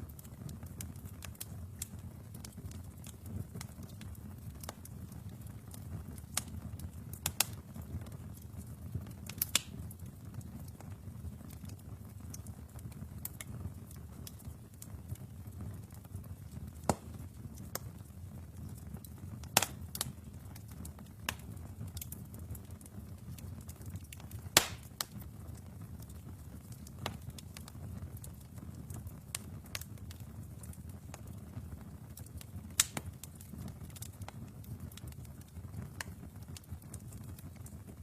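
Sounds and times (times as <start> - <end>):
fire crackles and pops: 0.0 - 38.0
flames rumbling: 0.0 - 38.0.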